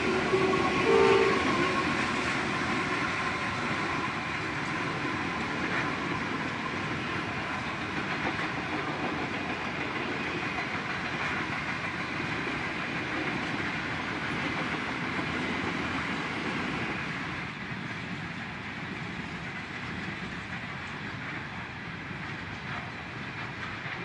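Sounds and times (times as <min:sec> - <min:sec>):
train wheels running on rails: 0:00.0 - 0:24.0.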